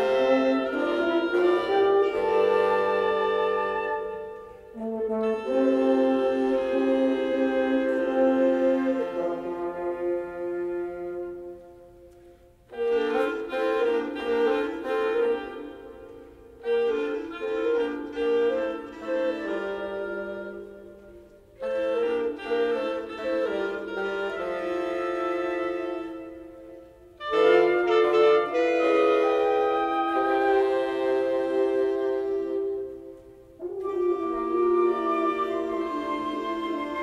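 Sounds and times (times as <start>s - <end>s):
woodwind quintet playing chamber music: 0.0s - 37.0s.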